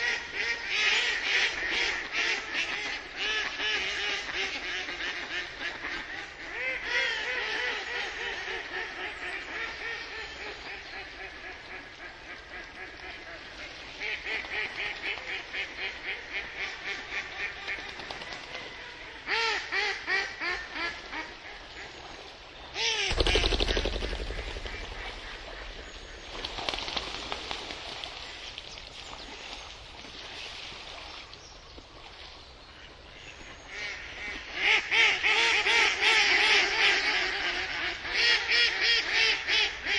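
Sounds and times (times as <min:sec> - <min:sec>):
ducks quacking: 0:00.0 - 0:22.0, 0:22.8 - 0:28.4, 0:32.7 - 0:39.9.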